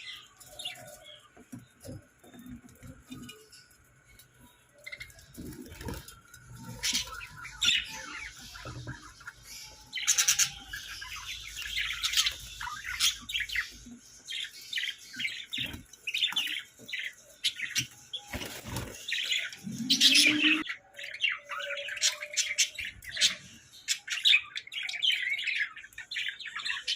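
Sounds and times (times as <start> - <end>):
budgerigars chirping and chattering: 0.0 - 26.9.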